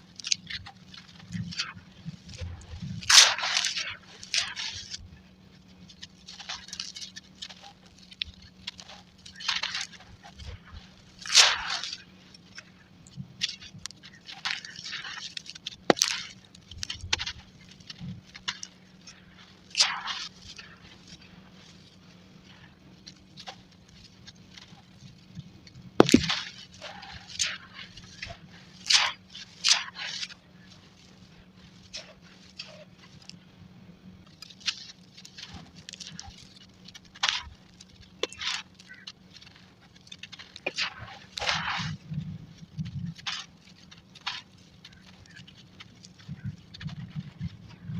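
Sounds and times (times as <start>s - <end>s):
charcoal crunching and cracking: 0.0s - 33.5s, 34.2s - 47.9s.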